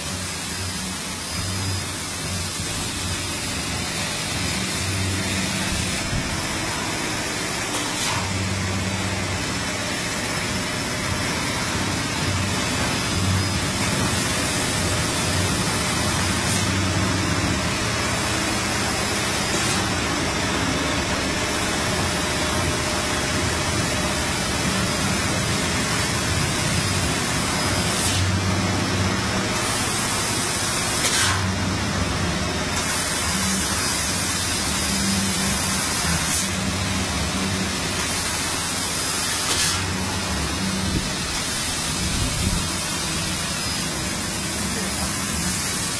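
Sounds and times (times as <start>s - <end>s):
laser cutting machine hissing: 0.0s - 45.9s.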